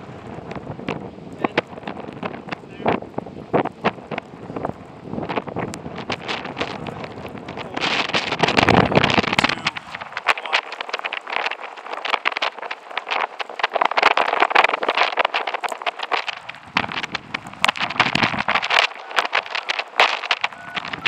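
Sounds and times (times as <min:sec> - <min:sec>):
gusty wind buffeting microphone: 0:00.0 - 0:21.0
small crackles and knocks: 0:00.0 - 0:21.0.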